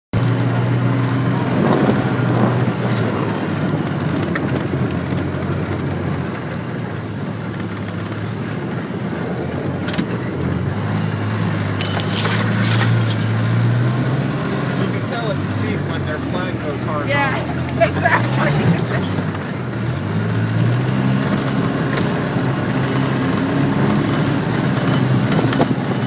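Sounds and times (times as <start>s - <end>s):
atv engine running: 0.2s - 26.0s
rattles over bumps: 1.2s - 26.0s.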